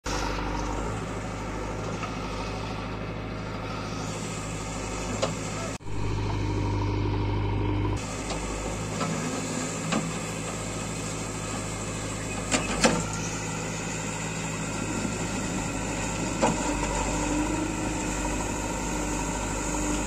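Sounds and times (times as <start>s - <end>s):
diesel engine running: 0.1s - 20.0s.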